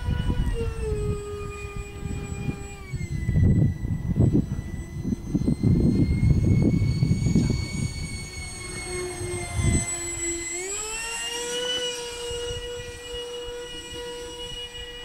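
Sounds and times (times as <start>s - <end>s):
model jet fan whining: 0.0s - 15.0s
wind buffeting microphone: 0.0s - 15.0s.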